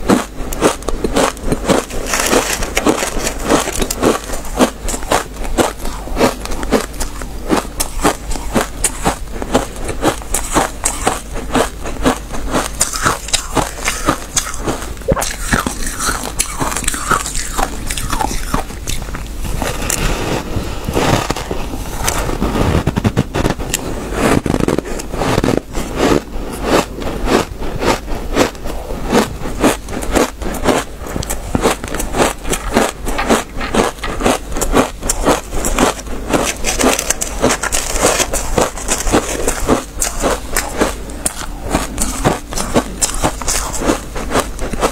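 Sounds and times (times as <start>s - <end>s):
chewing crunchy ice: 0.0s - 44.9s.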